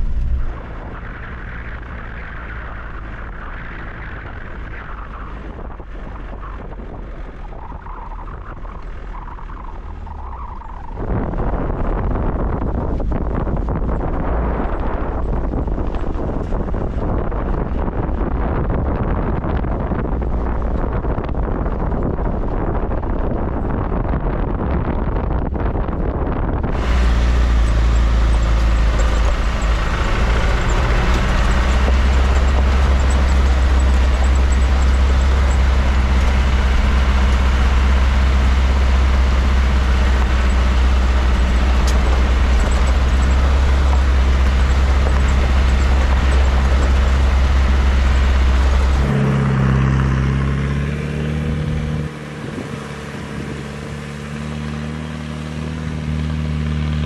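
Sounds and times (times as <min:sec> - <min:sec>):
diesel engine running: 0:00.0 - 0:57.0
vehicle driving on dirt: 0:00.0 - 0:57.0.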